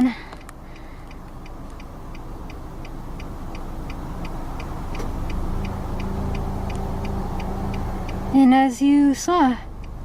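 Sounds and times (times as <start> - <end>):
faint steady ticking: 0.0 - 10.0
road vehicle rumbling past: 0.6 - 10.0.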